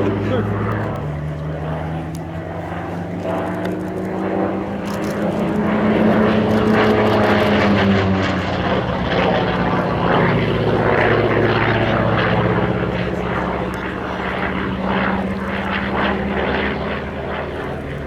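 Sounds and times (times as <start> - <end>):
propeller plane flying by: 0.0 - 18.0.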